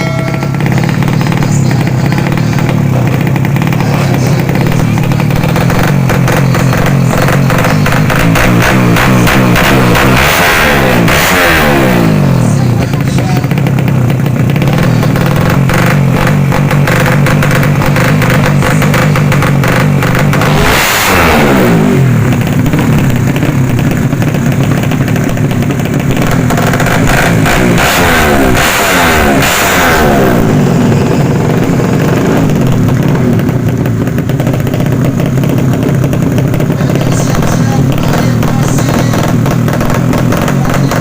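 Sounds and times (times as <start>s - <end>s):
motorcycles passing by: 0.0s - 41.0s
motorcycles revving hard: 0.0s - 41.0s.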